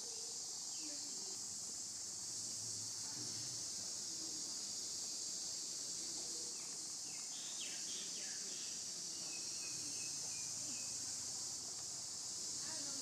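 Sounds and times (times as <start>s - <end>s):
shrill insect chorus: 0.0s - 13.0s.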